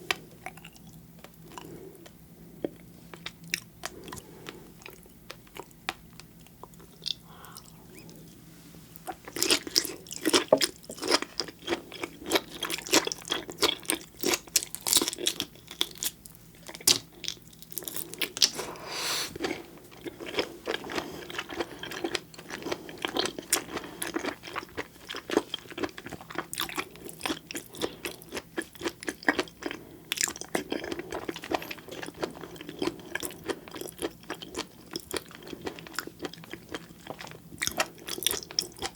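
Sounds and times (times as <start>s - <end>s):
wet chewing with crunches: 0.0s - 8.3s, 9.0s - 38.9s.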